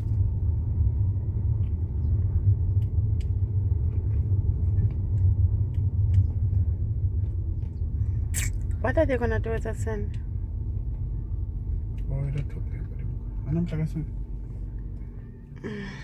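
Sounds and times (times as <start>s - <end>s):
car interior rumble: 0.0s - 16.0s.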